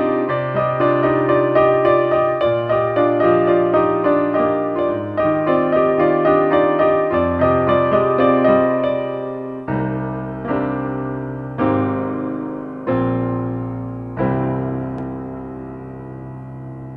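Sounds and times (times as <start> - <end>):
piano notes and chords: 0.0 - 16.9.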